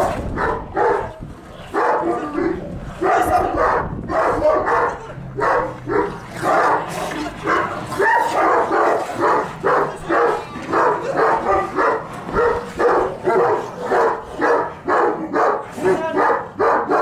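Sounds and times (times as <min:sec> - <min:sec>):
large dog barking: 0:00.0 - 0:17.0.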